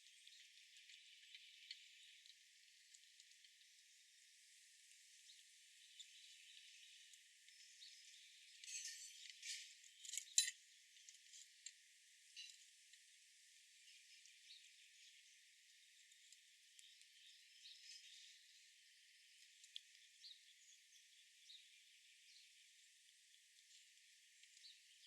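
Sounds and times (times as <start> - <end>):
crackling rustles and clicks: 0.0 - 25.0.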